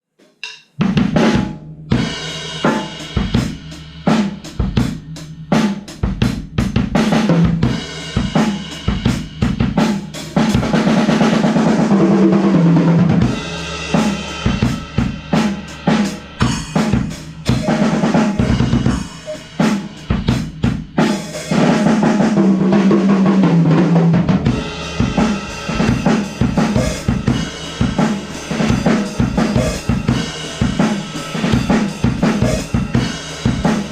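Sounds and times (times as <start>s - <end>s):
drum kit rock groove: 0.2s - 33.9s.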